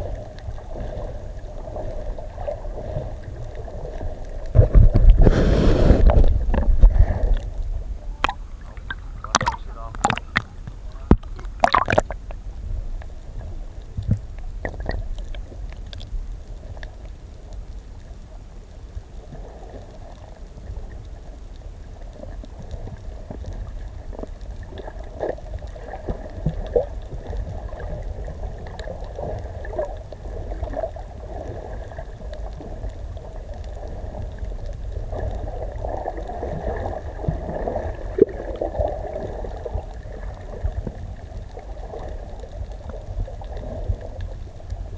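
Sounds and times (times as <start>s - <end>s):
steady low rumble: 0.0s - 36.4s
muffled water gurgling: 0.0s - 44.9s.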